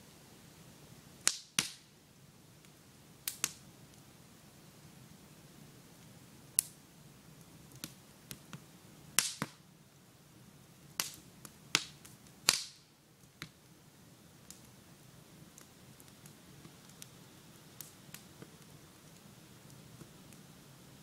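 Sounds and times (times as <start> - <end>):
campfire crackling and popping: 0.9 - 21.0.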